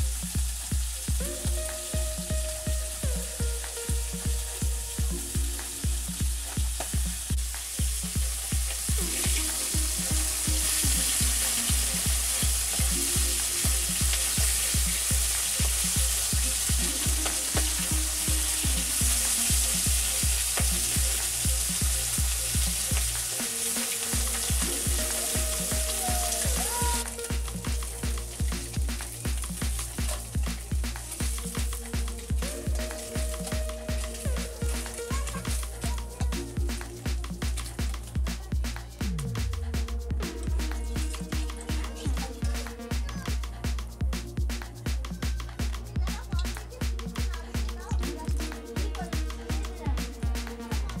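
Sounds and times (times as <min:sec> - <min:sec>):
fish sizzling in hot oil: 0:00.0 - 0:51.0
music with bass beat: 0:00.0 - 0:51.0.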